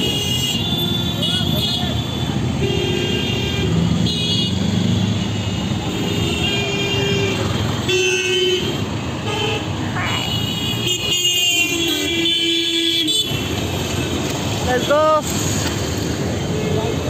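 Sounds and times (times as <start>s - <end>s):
car horns honking: 0.0s - 15.2s
road traffic passing: 0.0s - 17.0s.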